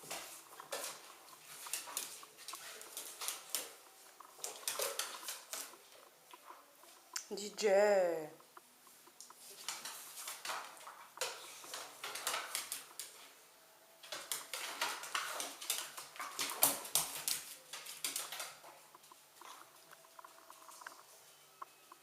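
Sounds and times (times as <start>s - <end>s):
dogs scuffling and huffing: 0.0s - 7.0s, 9.0s - 13.4s, 14.0s - 21.1s.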